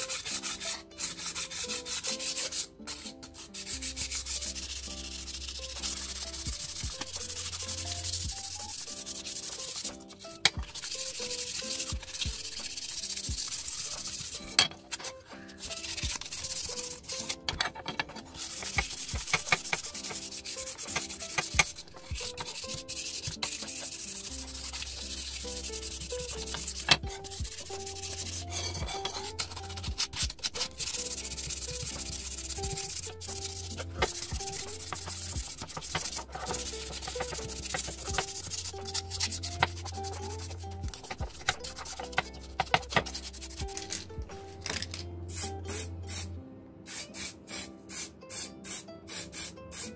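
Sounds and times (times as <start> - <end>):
sandpaper scratching on wood: 0.0 - 44.2
background music with bass line: 0.0 - 46.6.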